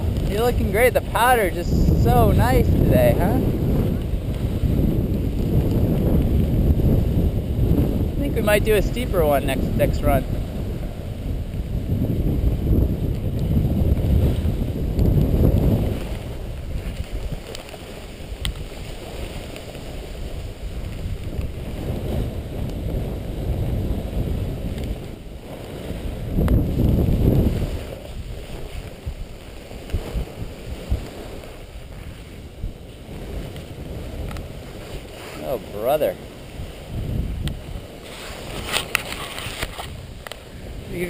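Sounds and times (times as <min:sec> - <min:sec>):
snow sliding under board: 0:00.0 - 0:41.0
wind rumbling on microphone: 0:00.0 - 0:41.0.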